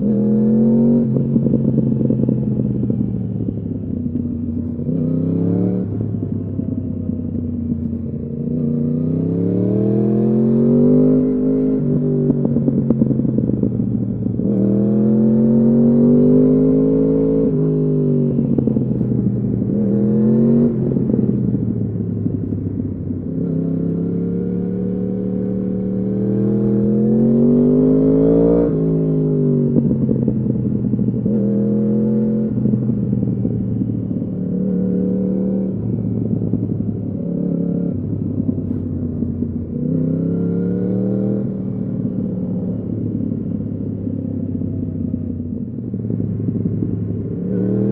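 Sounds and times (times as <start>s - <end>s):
motorcycle engine accelerating hard: 0.0s - 47.9s.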